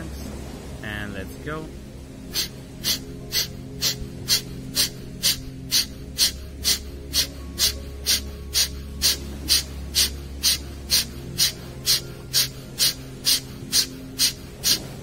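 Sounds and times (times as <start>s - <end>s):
forceful nasal exhalations: 2.3s - 14.9s.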